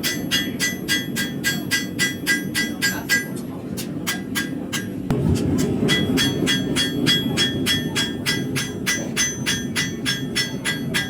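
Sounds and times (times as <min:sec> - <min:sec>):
hammer striking steel on anvil: 0:00.0 - 0:03.3, 0:04.1 - 0:11.0.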